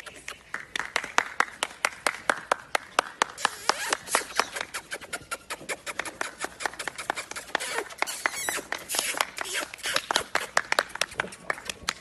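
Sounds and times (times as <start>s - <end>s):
hands clapping: 0.0s - 5.0s, 5.9s - 12.0s.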